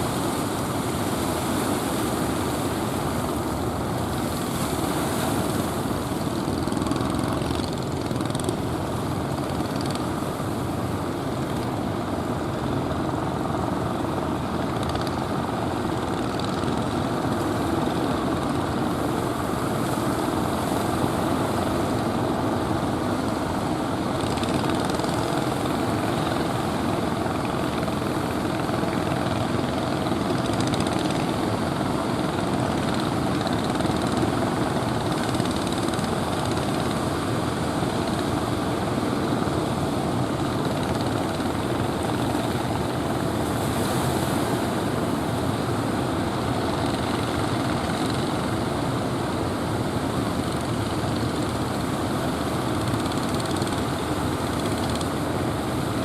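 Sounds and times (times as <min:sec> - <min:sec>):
ocean surf roaring: 0:00.0 - 0:10.7, 0:17.1 - 0:56.0.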